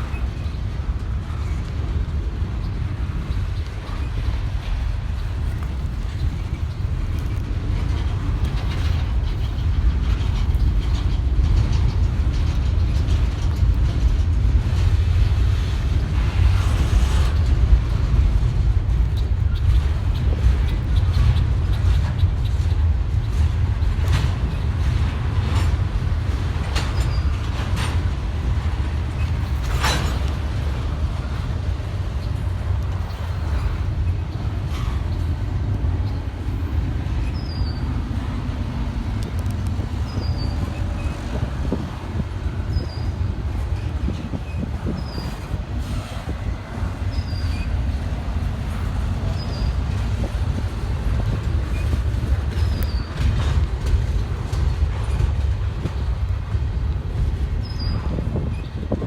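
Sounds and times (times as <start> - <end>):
freight train rumbling past: 0.0 - 59.0
train cars clicking and clanking: 0.0 - 59.0.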